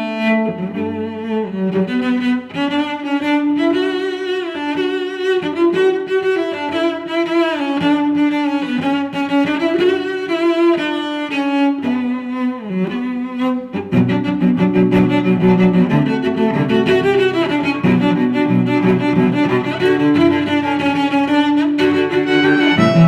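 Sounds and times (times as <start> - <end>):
slow bowed string music: 0.0 - 23.0.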